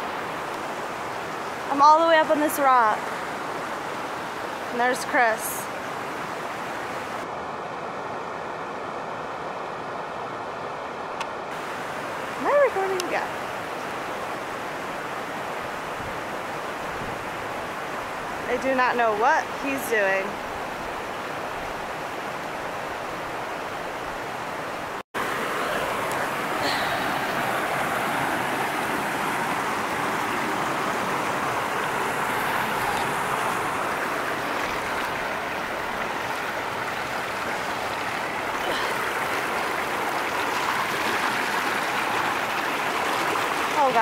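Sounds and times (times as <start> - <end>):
stream water rushing over rocks: 0.0 - 44.0.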